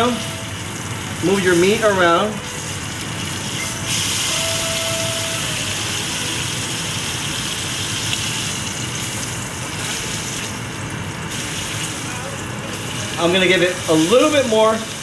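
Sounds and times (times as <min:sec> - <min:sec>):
steak sizzling in a frying pan: 0:00.1 - 0:12.1.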